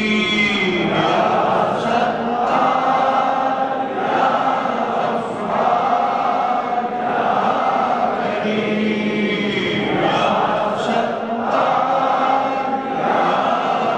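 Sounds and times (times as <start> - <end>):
congregation chanting in unison: 0.0 - 13.9.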